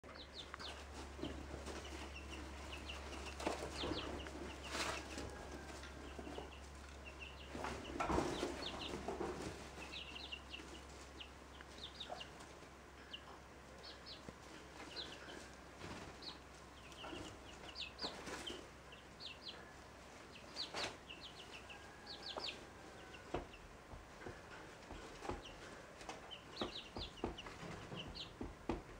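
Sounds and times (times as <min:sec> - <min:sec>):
chicks peeping: 0:00.0 - 0:28.9
hen clucking: 0:00.1 - 0:28.8.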